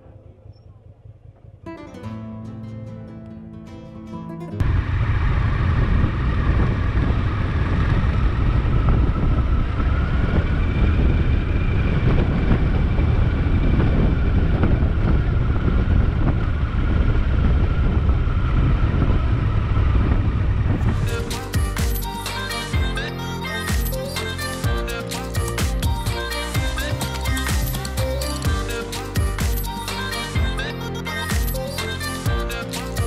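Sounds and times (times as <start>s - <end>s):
motorcycle engine rumble: 0.0s - 2.0s, 4.6s - 33.0s
road noise: 4.6s - 33.0s.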